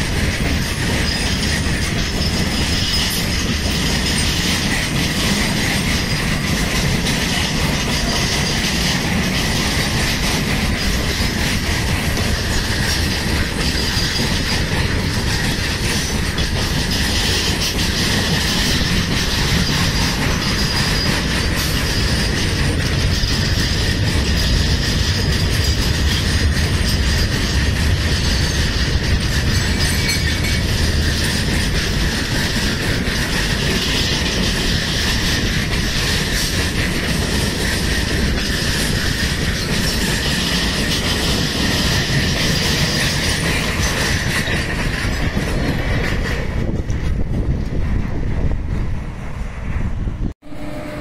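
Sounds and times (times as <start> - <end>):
train wheels rumbling on rail: 0.0 - 51.0
high wheel squeal: 0.2 - 45.3.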